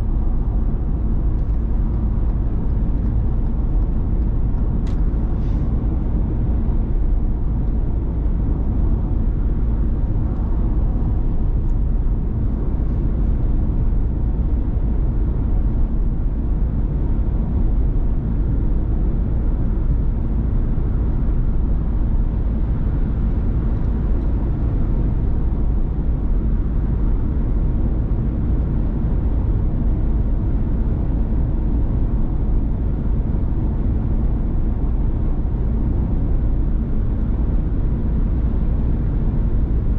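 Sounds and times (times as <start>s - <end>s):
van engine and tyre rumble: 0.0s - 39.9s.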